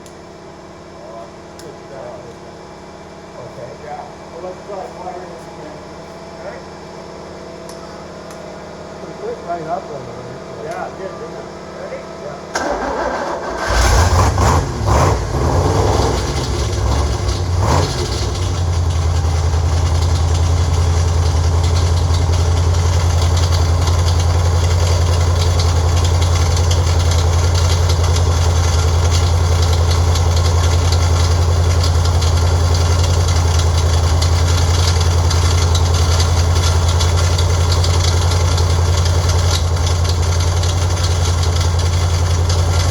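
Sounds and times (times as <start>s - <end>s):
v eight engine idling: 0.6s - 42.9s.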